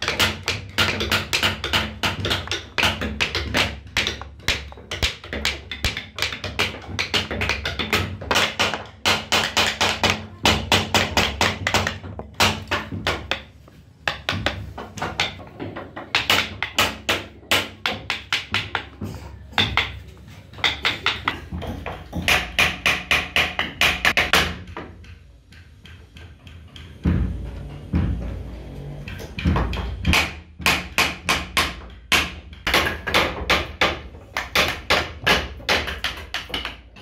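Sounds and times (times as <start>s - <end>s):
mallet tapping chisel into wood: 0.0s - 13.5s, 14.1s - 28.2s, 29.1s - 37.0s.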